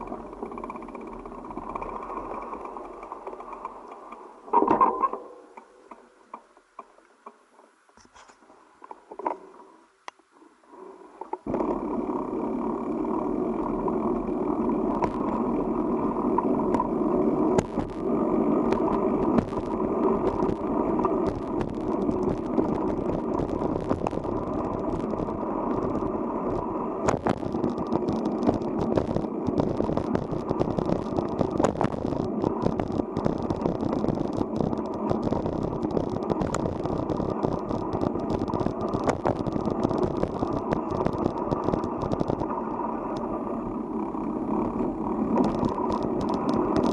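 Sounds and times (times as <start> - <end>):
bicycle tyre and wind rush: 0.0 - 3.8, 11.4 - 46.9
bicycle clicks and rattles: 0.0 - 5.2, 13.4 - 43.4, 44.0 - 46.9.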